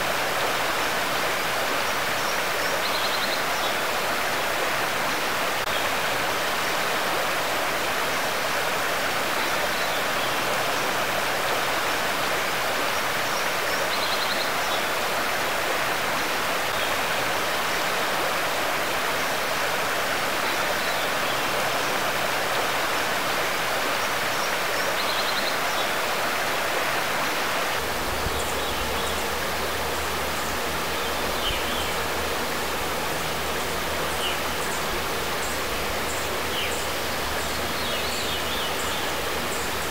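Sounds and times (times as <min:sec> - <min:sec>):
stream water rushing over gravel: 0:00.0 - 0:39.9.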